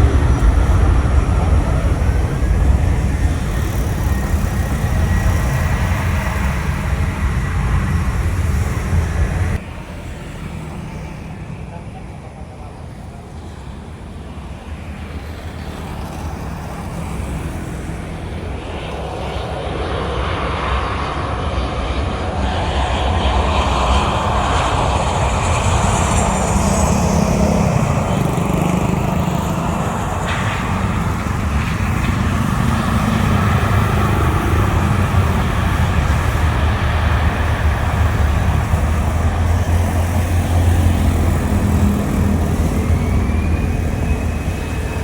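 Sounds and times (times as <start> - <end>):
high jet whine: 0.0 - 45.0
jet engines rumbling: 0.0 - 45.0.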